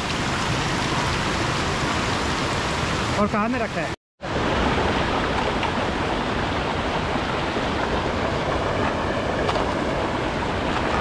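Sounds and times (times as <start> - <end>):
stream rushing over stones: 0.0 - 11.0.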